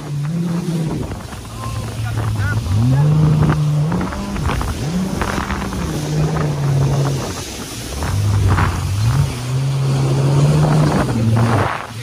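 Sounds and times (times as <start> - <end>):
jet ski engine: 0.0 - 12.0.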